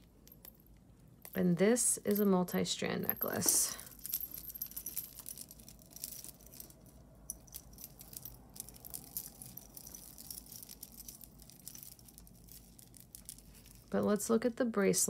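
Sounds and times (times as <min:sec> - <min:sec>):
beads and chain clinking: 0:00.0 - 0:15.0.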